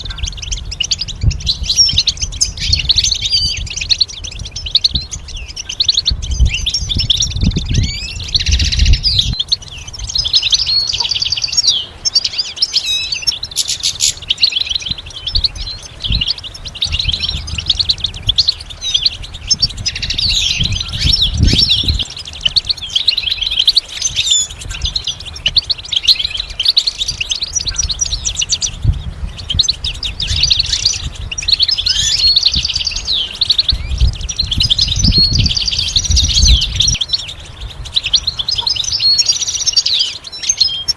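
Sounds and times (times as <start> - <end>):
goldfinch twittering: 0.0 - 40.9.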